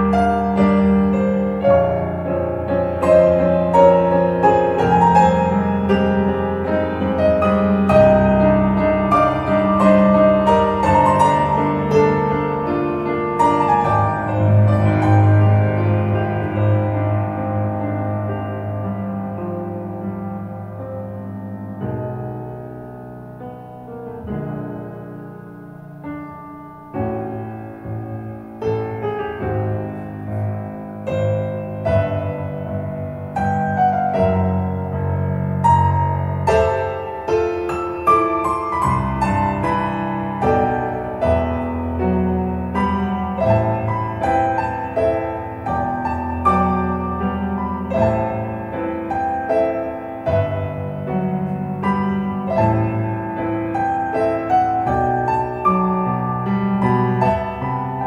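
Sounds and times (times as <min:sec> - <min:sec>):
solo piano music through speakers: 0:00.0 - 0:58.0.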